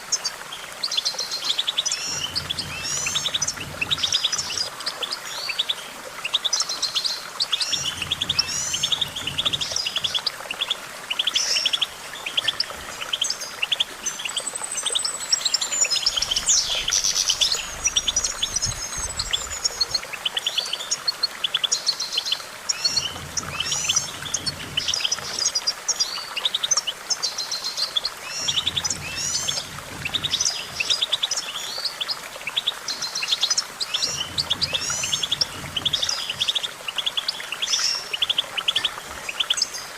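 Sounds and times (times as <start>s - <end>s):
bird singing twittering trills: 0.0s - 39.9s.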